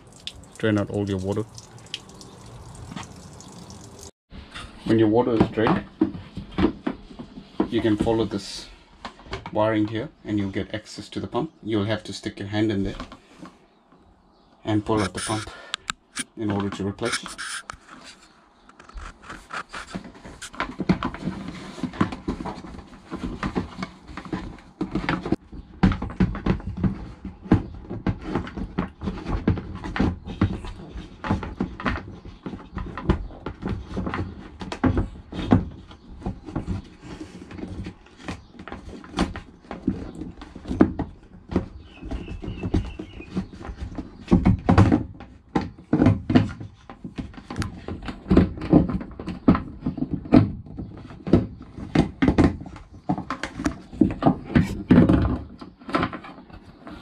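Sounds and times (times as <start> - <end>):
knocks and plastic rattles: 5.2 - 10.0, 14.9 - 57.0.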